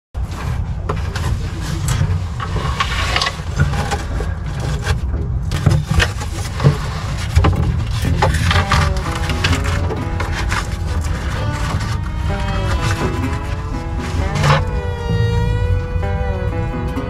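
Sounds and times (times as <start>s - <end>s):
cardboard scraping and rustling: 0.2s - 17.0s
steady low rumble: 0.2s - 17.0s.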